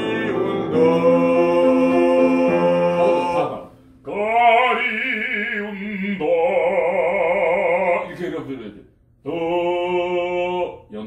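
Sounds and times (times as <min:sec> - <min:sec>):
man singing operatically: 0:00.0 - 0:08.1, 0:09.2 - 0:10.9.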